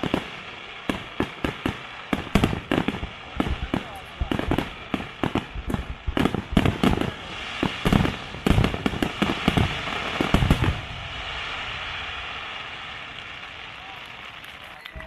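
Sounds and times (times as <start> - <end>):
fireworks bangs: 0.0 - 15.0
fireworks crackling hiss: 0.0 - 15.0.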